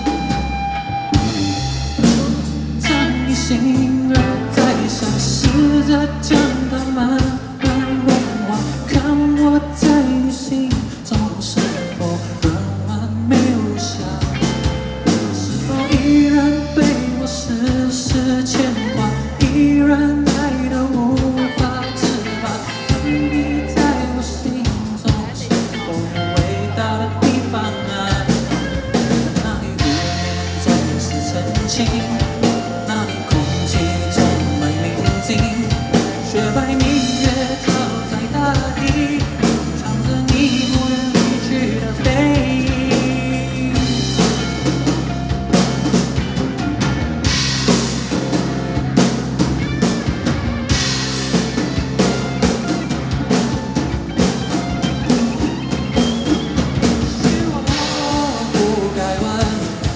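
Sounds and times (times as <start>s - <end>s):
drum kit beat: 0.0s - 59.9s
rock band playing: 0.0s - 59.9s.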